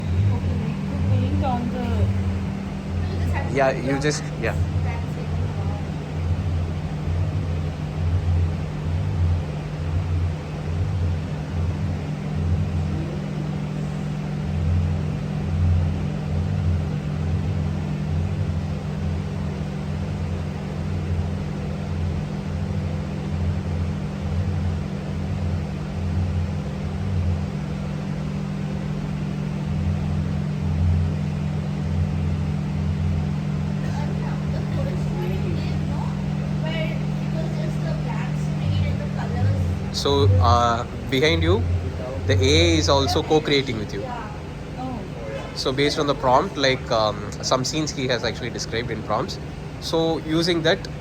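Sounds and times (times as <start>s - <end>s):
deep pulsing throb: 0.0s - 51.0s
low mechanical hum: 0.0s - 51.0s.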